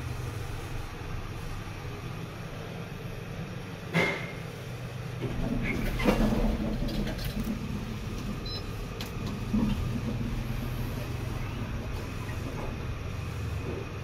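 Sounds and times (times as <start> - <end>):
lift rumble and hum: 0.0 - 14.0.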